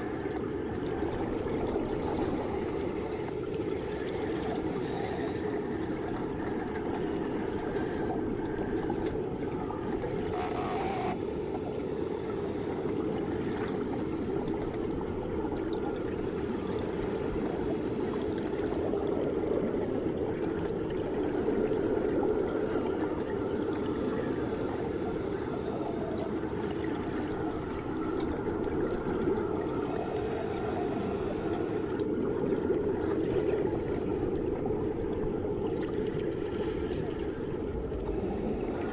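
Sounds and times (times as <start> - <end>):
muffled underwater water rushing: 0.0 - 38.9.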